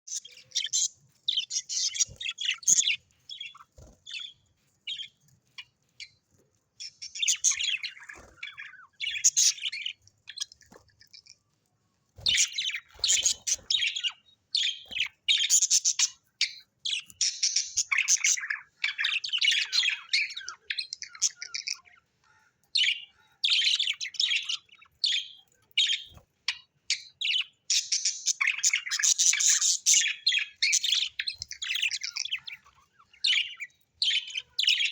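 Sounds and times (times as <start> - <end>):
parrots chirping and chattering: 0.0 - 11.5, 12.2 - 34.9.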